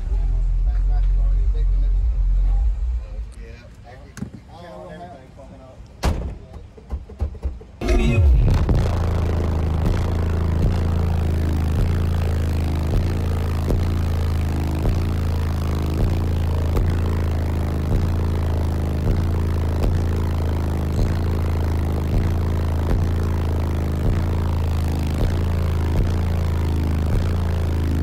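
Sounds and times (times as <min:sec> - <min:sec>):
loud deep bass line: 0:00.0 - 0:03.4, 0:07.8 - 0:28.0.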